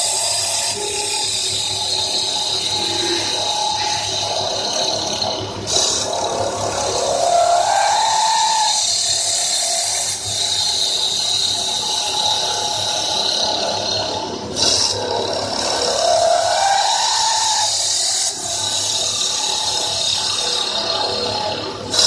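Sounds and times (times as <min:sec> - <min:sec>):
cutting tool hissing on wood: 0:00.0 - 0:22.0
machine whine rising in pitch: 0:00.0 - 0:22.0.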